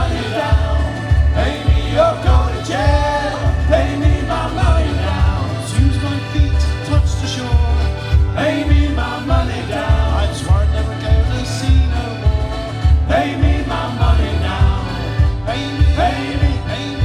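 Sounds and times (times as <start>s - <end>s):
band accompaniment with bass beat: 0.0s - 17.0s
men singing sea shanty in chorus: 0.0s - 17.0s.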